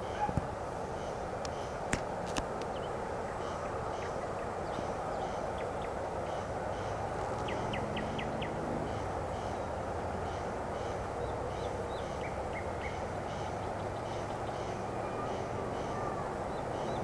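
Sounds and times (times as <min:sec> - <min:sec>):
birds chirping: 0:00.0 - 0:17.0
distant freight train rumble: 0:00.0 - 0:17.0.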